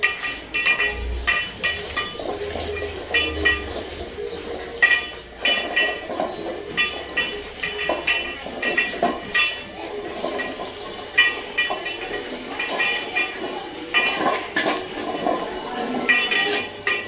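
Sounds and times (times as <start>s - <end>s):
metal bowls clinking on tiled floor: 0.0s - 17.0s.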